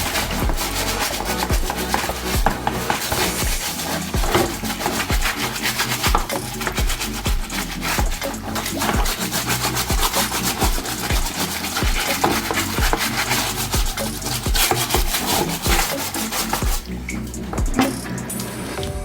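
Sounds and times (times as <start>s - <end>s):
scrubbing machine parts: 0.0s - 18.9s
background music with steady beat: 0.0s - 19.0s.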